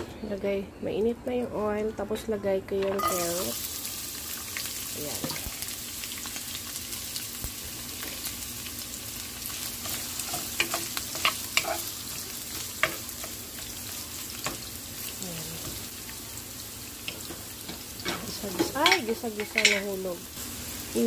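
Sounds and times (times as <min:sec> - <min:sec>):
vegetables sizzling in hot oil: 0:03.0 - 0:21.0.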